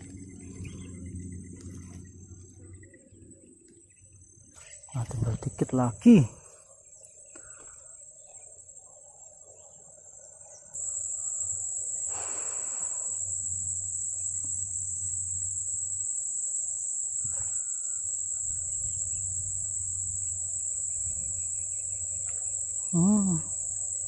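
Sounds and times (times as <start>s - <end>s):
insects shrilling chorus: 0.0s - 24.0s.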